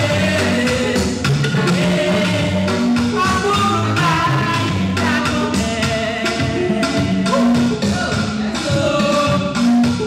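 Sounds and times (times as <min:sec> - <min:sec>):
woman singing into microphone: 0:00.0 - 0:07.8, 0:08.5 - 0:09.8
gospel backing music with bass: 0:00.0 - 0:10.0.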